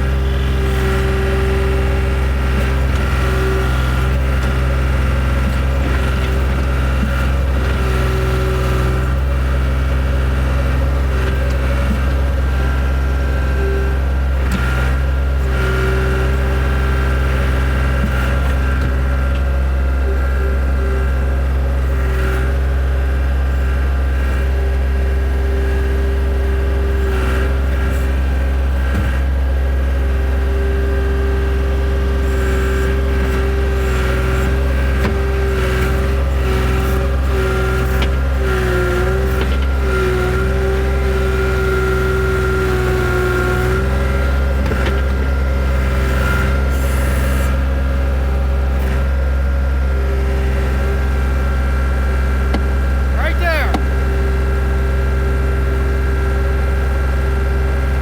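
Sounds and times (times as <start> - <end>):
skid steer engine under load: 0.0 - 58.0.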